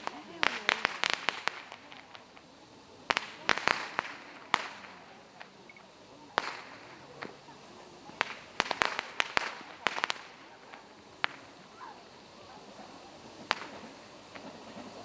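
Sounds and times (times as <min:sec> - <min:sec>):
fireworks cracking: 0:00.0 - 0:15.0.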